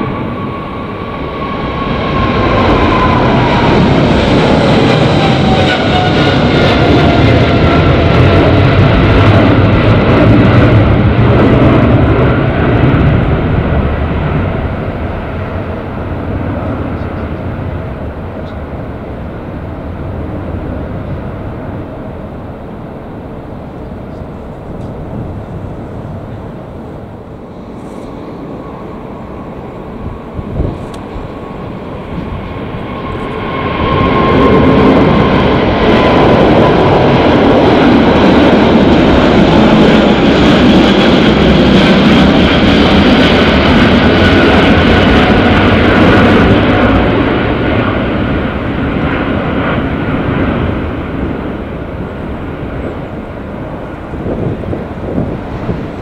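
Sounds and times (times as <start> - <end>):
jet airliner roar overhead: 0.0 - 56.0.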